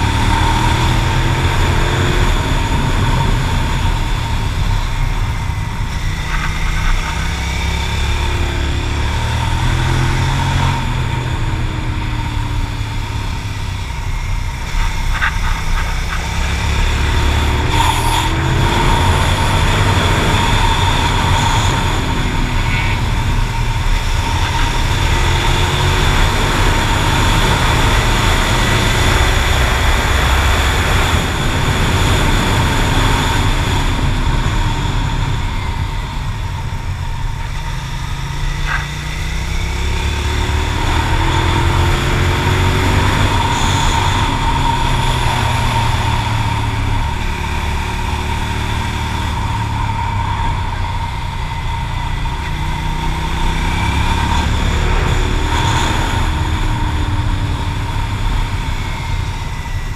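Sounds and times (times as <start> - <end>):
motorcycle engine revving: 0.0 - 59.9
wind rushing on microphone: 0.0 - 59.9.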